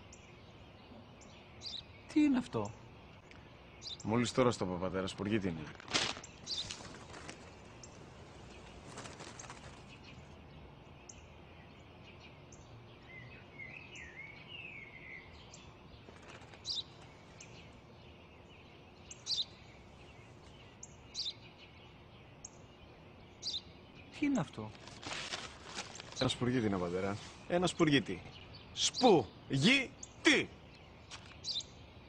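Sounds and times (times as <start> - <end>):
sparrow chirping: 0.0 - 5.6, 6.2 - 24.8, 26.0 - 32.0
faint outdoor background: 0.0 - 32.0.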